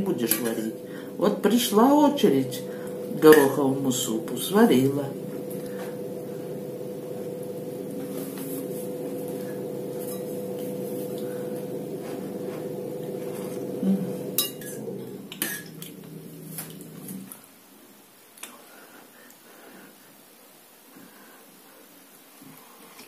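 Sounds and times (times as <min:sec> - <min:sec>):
steady hum: 0:00.0 - 0:22.1.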